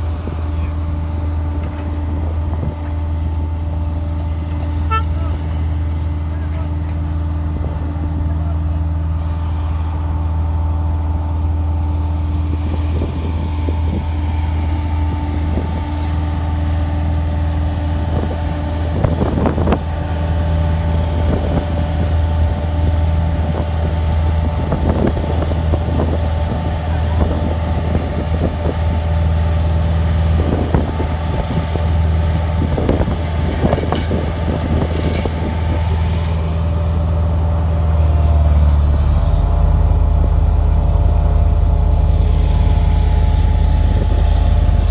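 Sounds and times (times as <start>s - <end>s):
diesel machinery engine hum: 0.0s - 44.9s.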